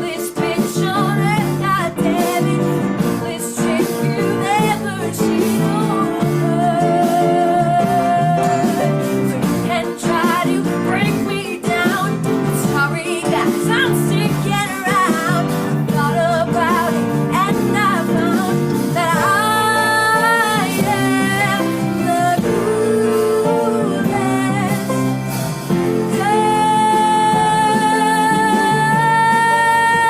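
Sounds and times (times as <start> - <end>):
pop song with singing and guitar: 0.0 - 30.0.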